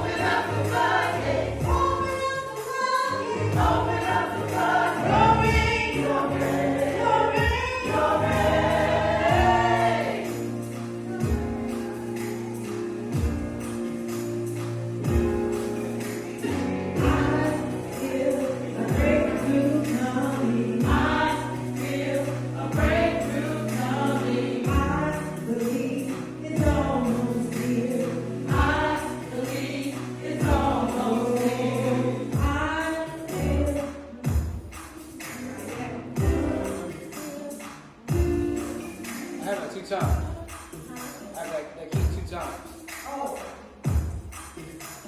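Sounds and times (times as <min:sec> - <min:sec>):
band accompaniment: 0:00.0 - 0:45.0
choir singing gospel song: 0:00.0 - 0:45.0.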